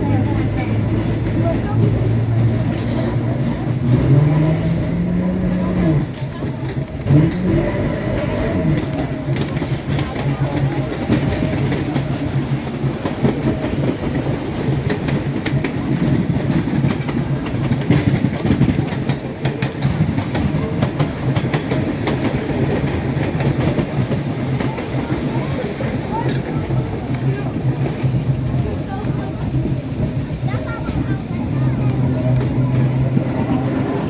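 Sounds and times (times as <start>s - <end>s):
subway train rumbling: 0.0s - 34.0s
wheels clicking over rail joints: 0.0s - 34.0s.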